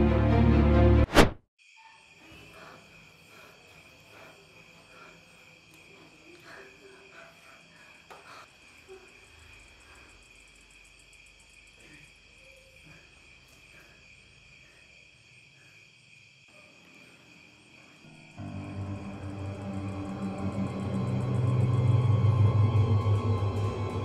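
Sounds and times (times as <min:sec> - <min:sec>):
crickets chirring: 0:01.6 - 0:24.0.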